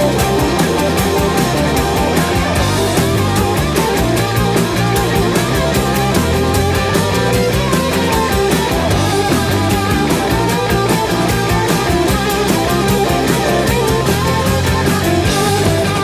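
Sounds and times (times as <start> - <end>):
fast drum beat: 0.0 - 16.0
loud rock music: 0.0 - 16.0.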